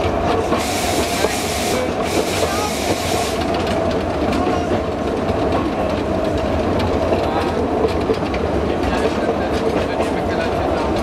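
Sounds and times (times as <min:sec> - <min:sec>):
train rumbling: 0:00.0 - 0:11.0
wheels clicking over rails: 0:00.0 - 0:11.0.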